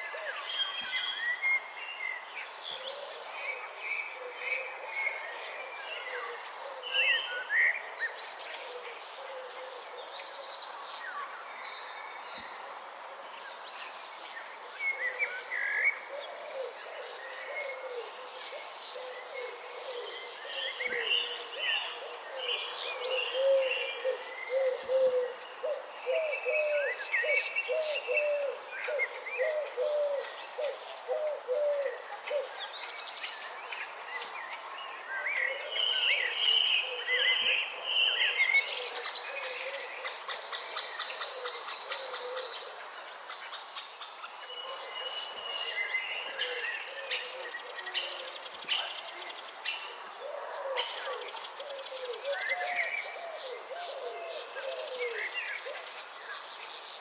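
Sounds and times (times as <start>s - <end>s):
high-pitched insect drone: 3.4s - 49.6s.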